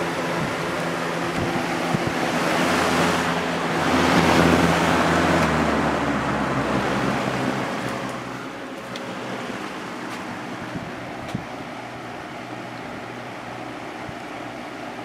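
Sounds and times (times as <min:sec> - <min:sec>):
box fan rush of air: 0:00.0 - 0:15.0
fan motor hum: 0:00.0 - 0:15.0.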